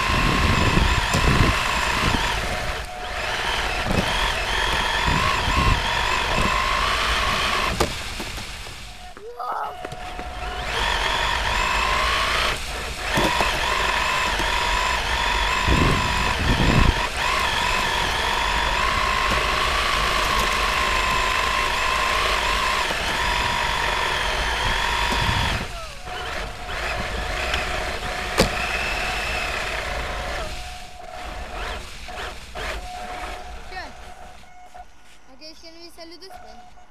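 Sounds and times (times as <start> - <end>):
toy car motor whining: 0.0 - 36.7.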